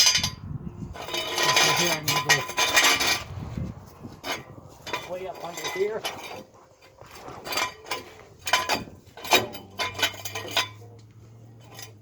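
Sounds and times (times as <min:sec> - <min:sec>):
metal jack stand clinking: 0:00.0 - 0:03.3, 0:04.2 - 0:12.0.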